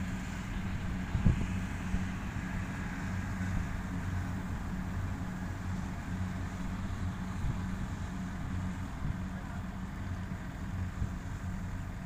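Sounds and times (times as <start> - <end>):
combine harvester engine hum: 0.0 - 12.0.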